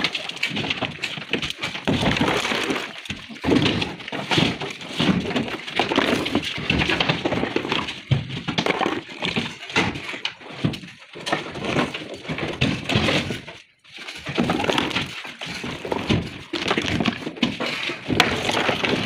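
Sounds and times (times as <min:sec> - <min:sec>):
stone slabs clattering and scraping: 0:00.0 - 0:19.0.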